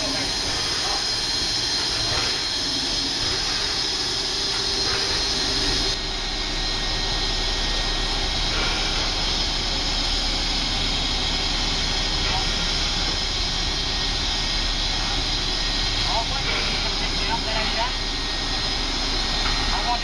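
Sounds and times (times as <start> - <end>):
steam locomotives hissing: 0.0 - 20.0.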